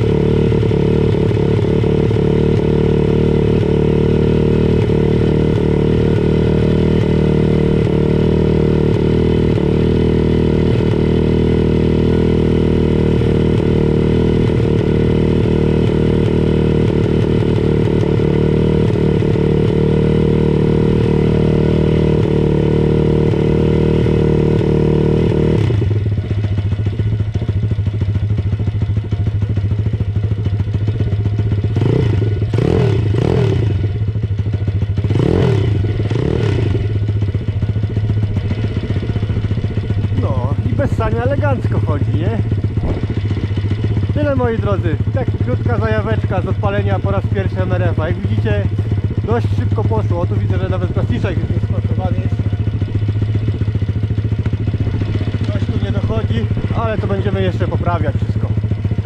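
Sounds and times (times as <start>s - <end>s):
motorbike engine idling: 0.0s - 59.0s.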